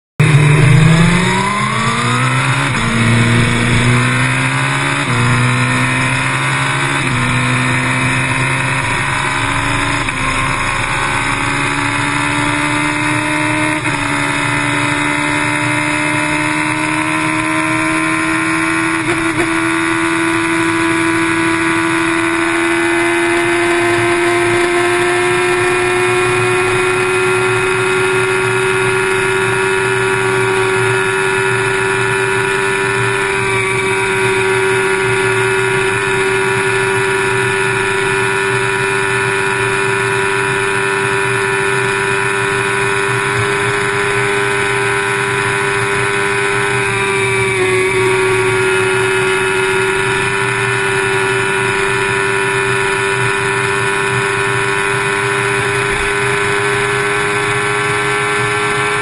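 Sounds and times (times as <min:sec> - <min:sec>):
engine accelerating through gears: 0:00.2 - 0:59.0.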